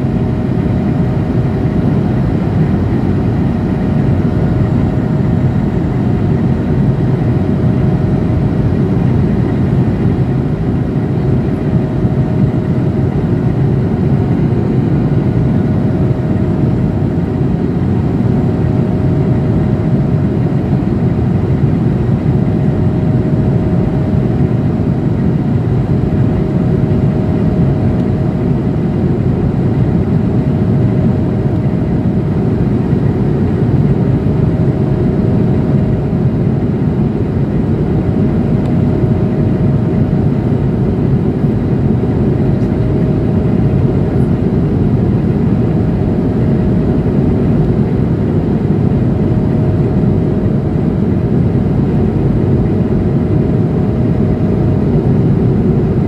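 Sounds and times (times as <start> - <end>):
jet engines in flight: 0.0 - 56.0
steady hum: 0.0 - 56.0.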